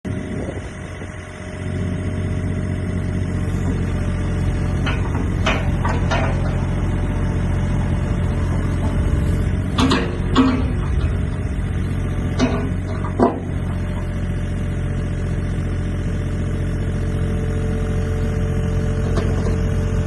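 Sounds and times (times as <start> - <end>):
small diesel engine running: 0.0 - 20.0.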